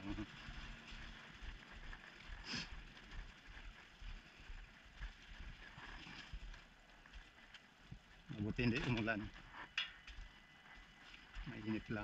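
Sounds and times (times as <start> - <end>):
bicycle rolling over brick paving: 0.0 - 12.0.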